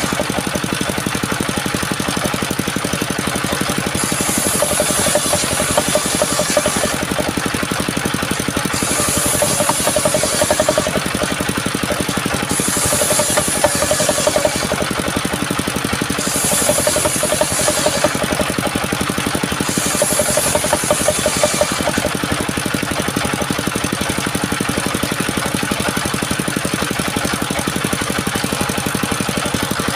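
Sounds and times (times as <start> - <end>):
wood-sawing machine running: 0.0 - 29.9.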